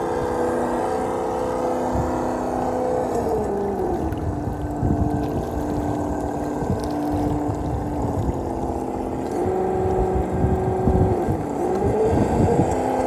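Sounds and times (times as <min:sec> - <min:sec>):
electric motor whining: 0:00.0 - 0:13.0
low rumbling noise: 0:00.0 - 0:13.0.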